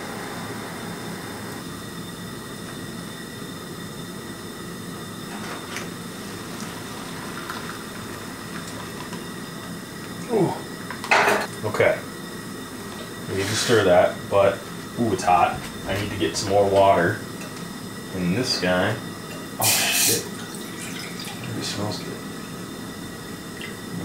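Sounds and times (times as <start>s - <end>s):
camp stove burner rushing: 0.0s - 20.3s.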